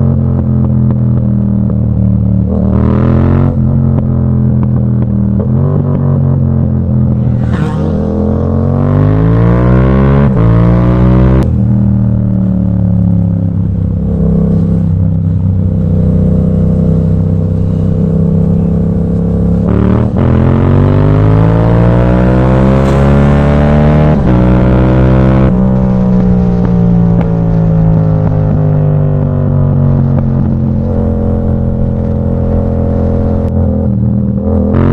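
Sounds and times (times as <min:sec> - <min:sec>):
motorcycle accelerating through gears: 0:00.0 - 0:34.9.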